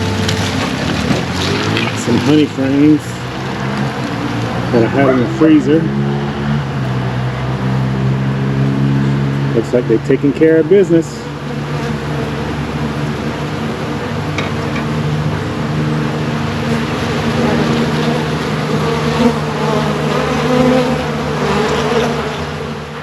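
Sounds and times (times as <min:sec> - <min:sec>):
honeybees buzzing loudly: 0:00.0 - 0:23.0.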